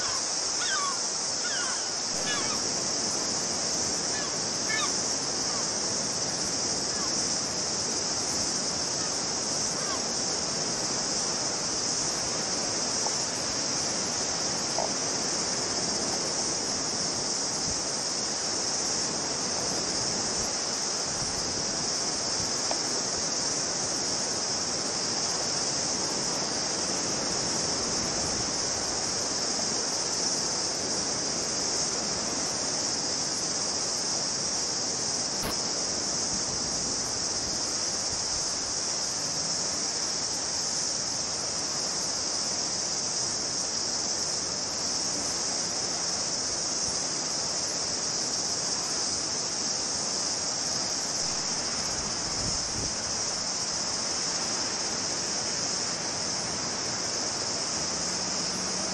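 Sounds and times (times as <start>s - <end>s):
high-pitched hiss: 0.0s - 58.9s
wind: 0.0s - 58.9s.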